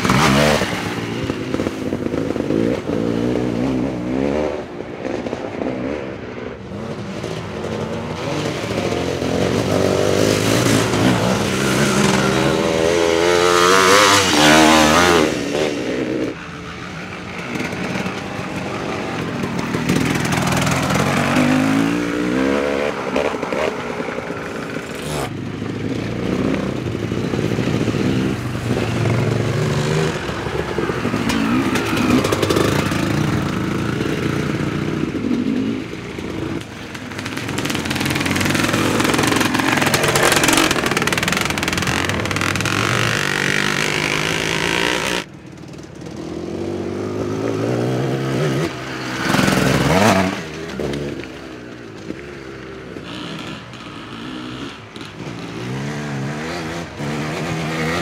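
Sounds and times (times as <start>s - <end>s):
dirt bike engines revving past: 0.0s - 58.0s.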